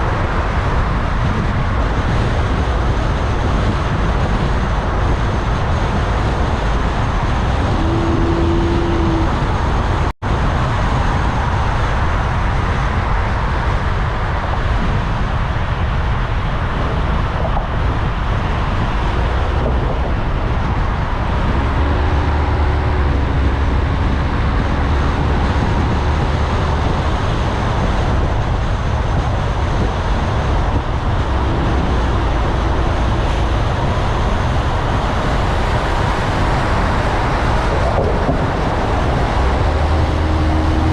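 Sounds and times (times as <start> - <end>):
deep engine rumble: 0.0 - 40.9
road and traffic noise: 0.0 - 40.9.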